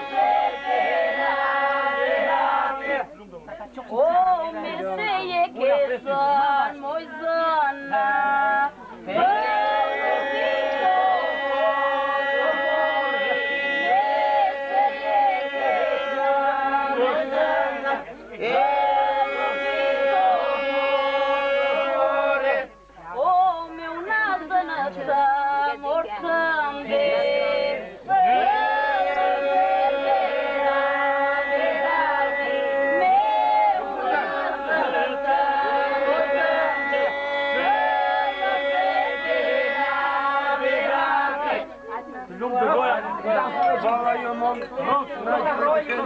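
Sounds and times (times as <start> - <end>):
voices singing unaccompanied: 0.0 - 3.1, 4.0 - 46.0.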